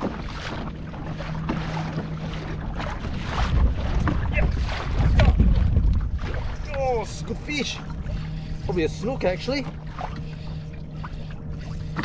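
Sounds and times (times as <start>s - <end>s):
water slapping against hull: 0.0s - 12.0s
wind buffeting microphone: 0.0s - 12.0s.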